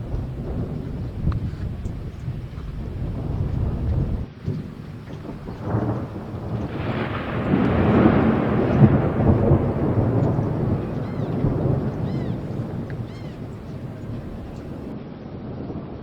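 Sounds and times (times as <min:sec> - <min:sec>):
thunder rumbling: 0:00.0 - 0:14.9.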